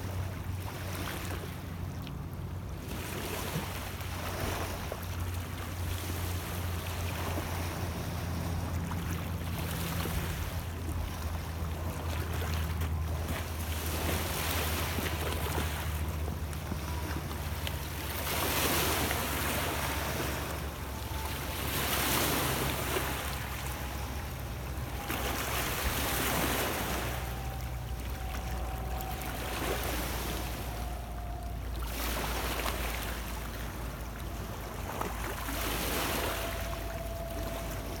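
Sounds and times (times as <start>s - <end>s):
small waves washing over stony shore: 2.7s - 38.0s.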